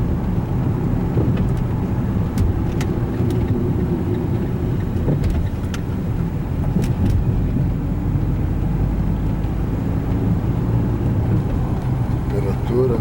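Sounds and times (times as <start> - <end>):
engine and tyres rumbling: 0.0 - 13.0.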